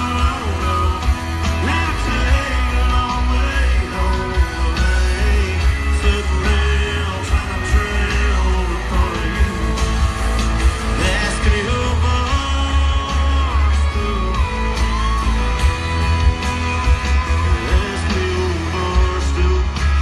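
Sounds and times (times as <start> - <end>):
person singing: 0.0 - 10.1, 10.8 - 15.0, 17.2 - 20.0
heavy bass: 0.0 - 20.0
live band playing: 0.0 - 20.0.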